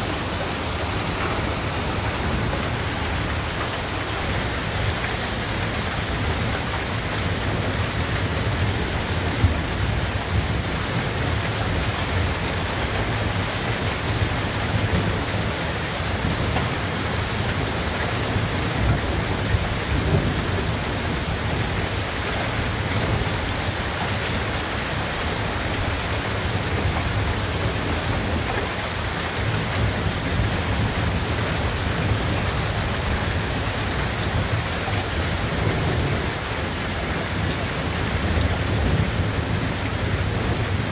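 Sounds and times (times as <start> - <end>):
heavy rain falling: 0.0 - 40.9
low rumble of thunder: 1.4 - 23.6, 29.4 - 40.9.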